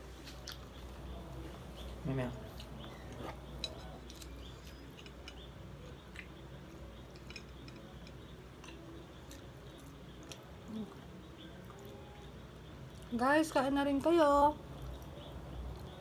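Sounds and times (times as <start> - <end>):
faint chewing: 0.0 - 13.1, 14.6 - 16.0.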